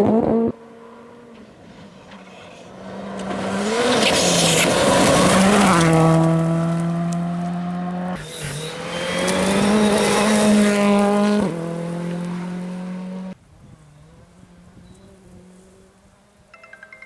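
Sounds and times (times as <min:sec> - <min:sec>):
rally car engine revving: 0:00.0 - 0:15.9.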